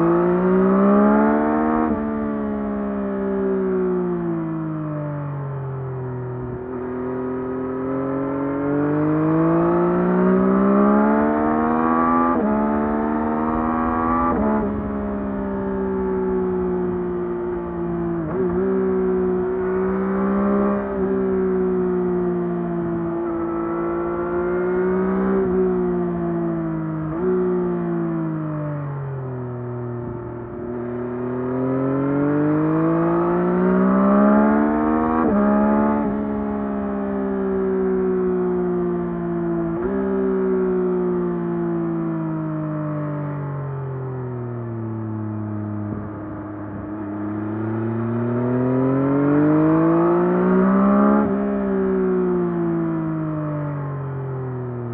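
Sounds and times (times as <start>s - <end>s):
motorcycle engine accelerating: 0.0s - 4.7s, 6.1s - 43.8s, 44.4s - 54.2s.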